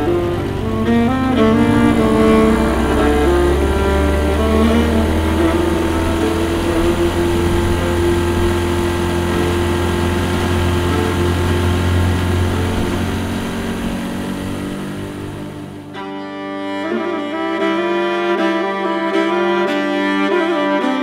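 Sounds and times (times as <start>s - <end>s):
motorboat engine humming: 0.0s - 21.0s
saxophone music: 0.0s - 21.0s.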